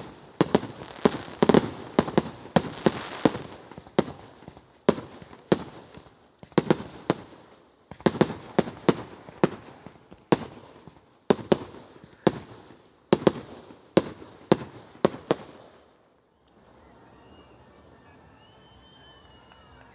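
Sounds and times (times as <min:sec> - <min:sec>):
fireworks bangs with hiss: 0:00.0 - 0:16.0.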